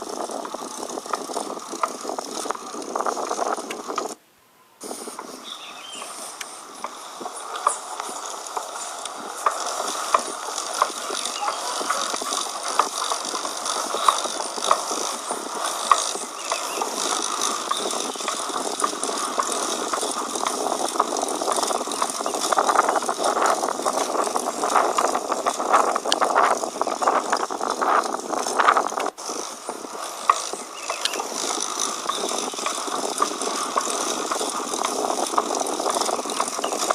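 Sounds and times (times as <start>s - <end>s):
bicycle drivetrain whirring: 0.0s - 36.9s
sharp click from bicycle: 4.9s - 36.9s.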